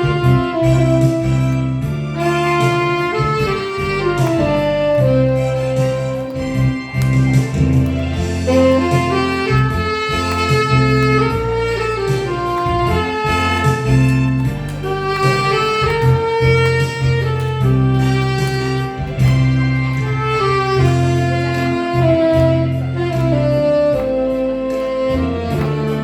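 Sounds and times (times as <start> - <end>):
pulsing bass line: 0.0 - 26.0
saxophone melody: 0.0 - 26.0.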